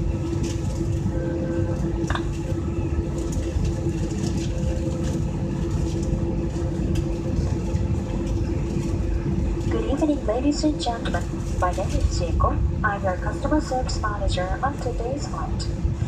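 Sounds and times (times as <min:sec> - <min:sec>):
airliner cabin rumble and hum: 0:00.0 - 0:16.0.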